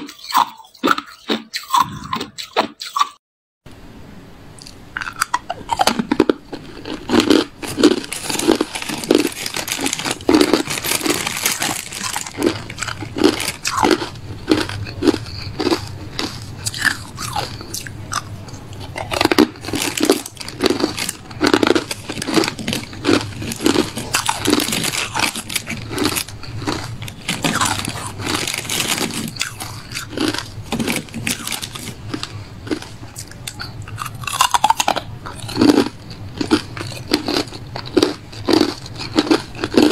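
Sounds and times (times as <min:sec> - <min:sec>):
person crunching ice: 0:05.1 - 0:39.9.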